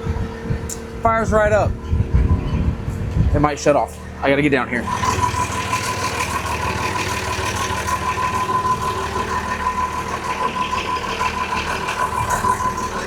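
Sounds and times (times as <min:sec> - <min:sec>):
diesel engine idling: 0:00.0 - 0:13.0
high whine: 0:00.0 - 0:13.0.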